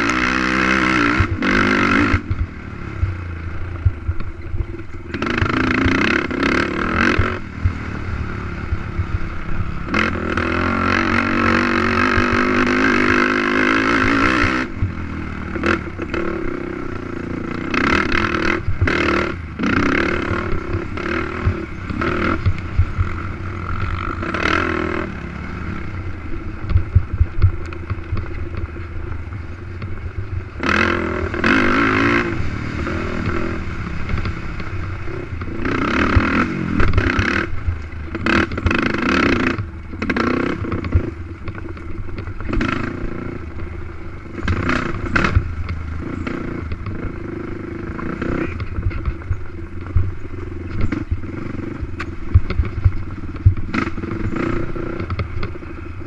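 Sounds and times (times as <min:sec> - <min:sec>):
atv engine revving: 0:00.0 - 0:56.0
quad clattering on rough track: 0:00.0 - 0:56.0.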